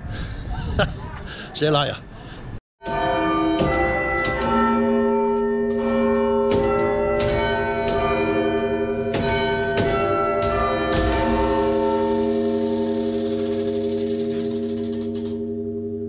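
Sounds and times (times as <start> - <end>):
clock bells chiming: 2.8 - 16.0.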